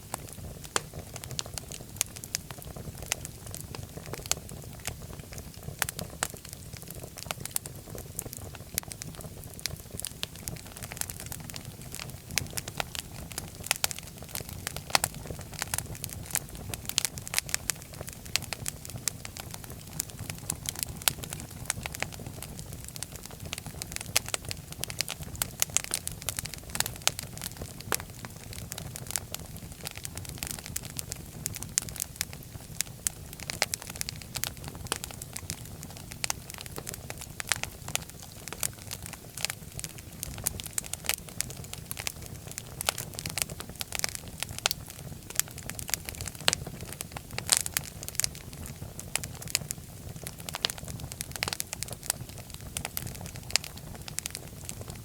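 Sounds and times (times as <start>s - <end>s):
fire crackling: 0.0s - 55.0s
low rumble of flames: 0.0s - 55.0s.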